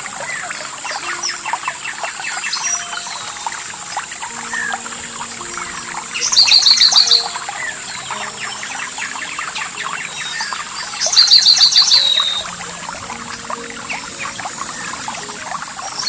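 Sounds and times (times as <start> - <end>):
songbird singing: 0.0 - 16.0
stream splashing and trickling: 0.0 - 16.0.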